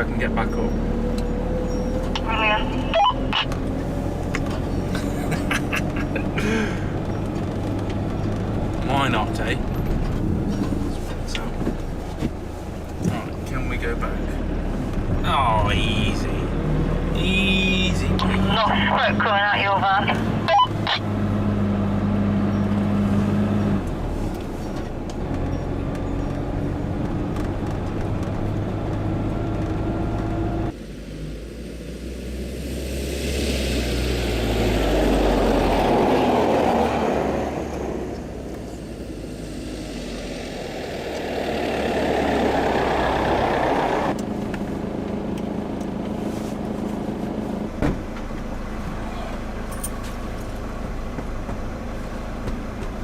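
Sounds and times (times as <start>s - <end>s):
van engine running: 0.0s - 53.0s.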